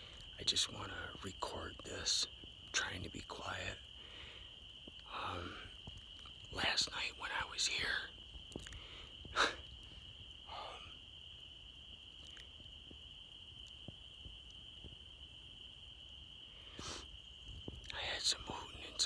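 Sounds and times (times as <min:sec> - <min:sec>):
distant spring peepers chorus: 0:00.0 - 0:19.0.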